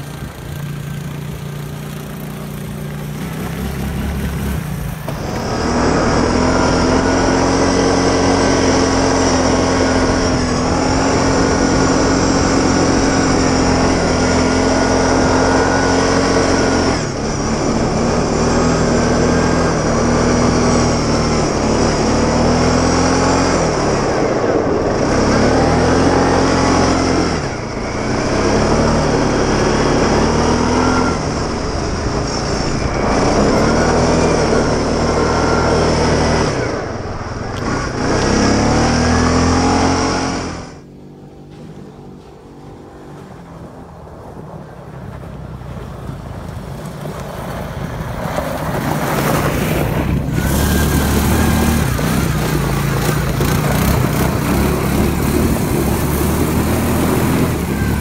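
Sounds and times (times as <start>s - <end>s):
quad bike engine revving: 0.0s - 43.7s, 47.4s - 58.0s.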